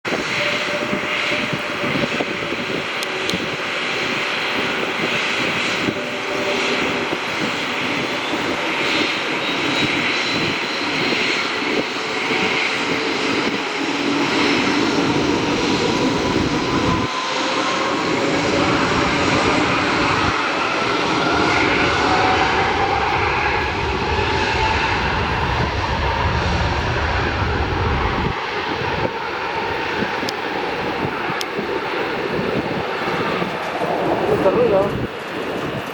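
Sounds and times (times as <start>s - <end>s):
jet engines whining: 0.0s - 35.9s.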